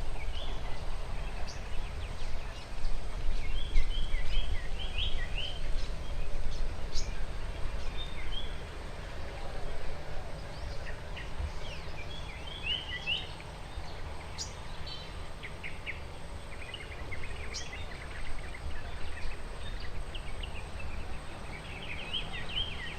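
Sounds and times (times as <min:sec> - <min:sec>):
birds chirping and twittering: 0:00.0 - 0:22.9.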